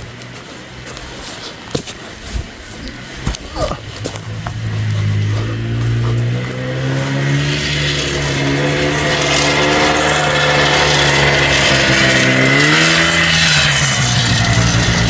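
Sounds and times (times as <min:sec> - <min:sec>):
two-stroke engine running: 0:02.8 - 0:15.0.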